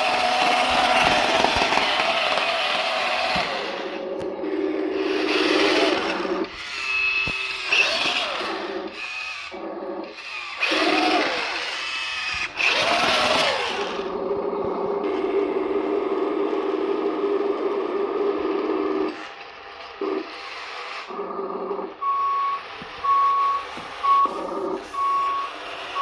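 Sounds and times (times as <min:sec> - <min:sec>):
small electric motors whining: 0:00.0 - 0:26.0.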